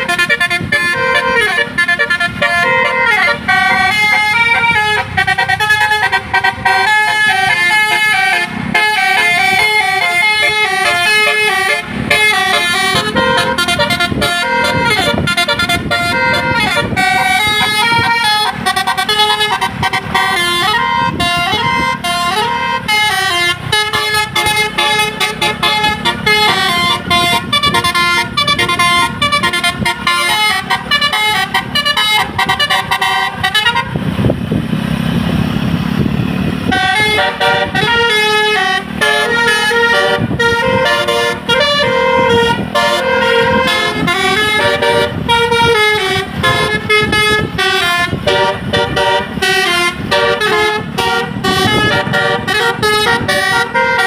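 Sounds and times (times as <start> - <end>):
musical air horn melodies: 0.0 - 34.0, 36.7 - 54.0
engine and road noise: 0.0 - 54.0.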